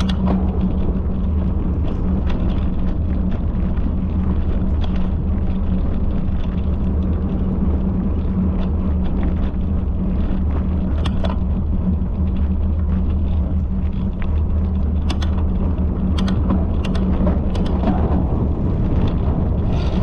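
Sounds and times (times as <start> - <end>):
constant low hum: 0.0 - 20.0
light clicks and rattles: 0.0 - 20.0
loud low rumble: 0.0 - 20.0.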